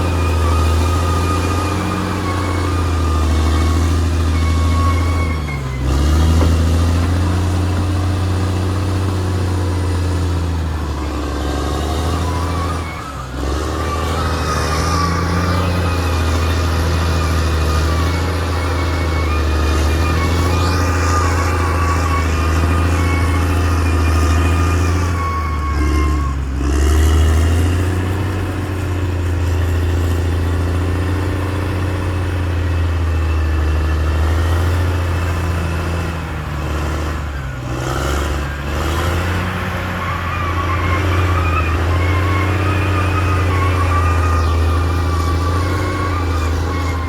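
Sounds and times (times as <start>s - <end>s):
bulldozer diesel engine under load: 0.0s - 47.0s.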